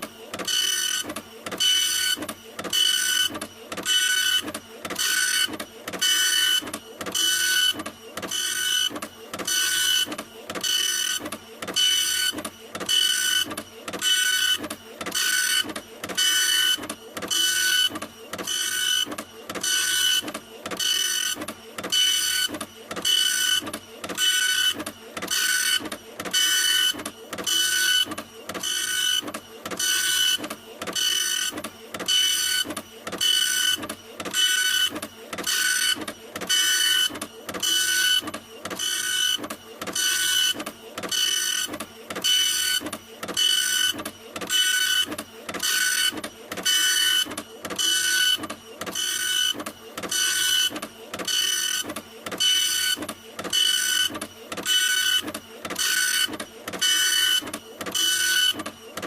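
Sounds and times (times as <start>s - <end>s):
printer running: 0.0s - 59.0s.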